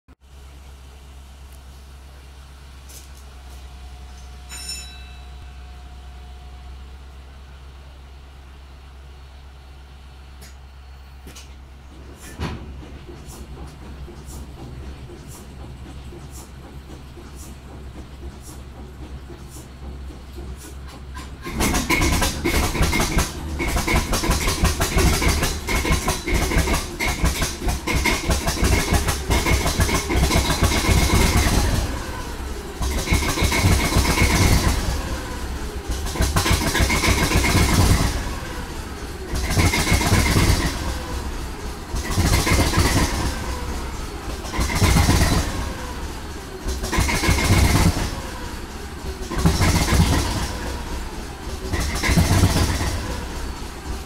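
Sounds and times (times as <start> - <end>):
diesel engine throbbing: 5.4 - 54.0.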